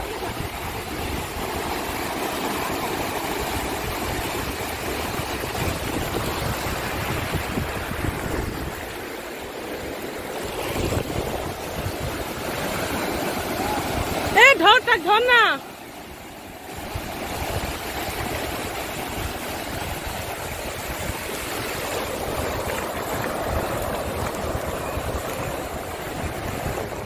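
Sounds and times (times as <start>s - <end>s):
surf breaking on sand: 0.0s - 27.0s.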